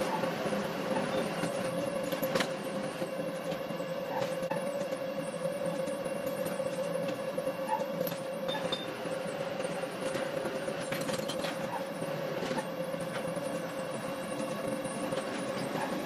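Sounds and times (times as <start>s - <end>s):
industrial machinery humming: 0.0s - 16.0s.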